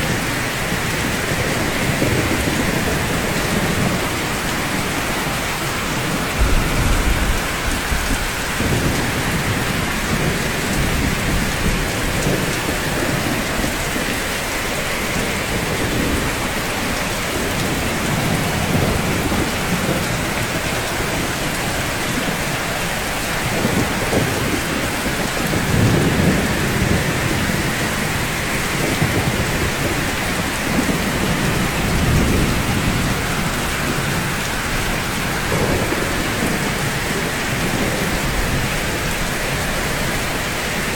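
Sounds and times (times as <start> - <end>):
distant thunder rumbling: 0.0 - 40.9
rain falling on rooftops: 0.0 - 40.9.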